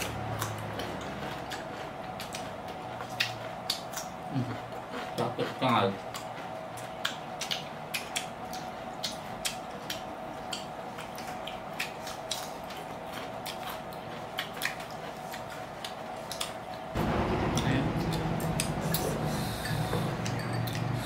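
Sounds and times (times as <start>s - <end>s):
crunchy cucumber chewing: 0.0s - 16.9s
faint steady hum: 0.0s - 21.0s.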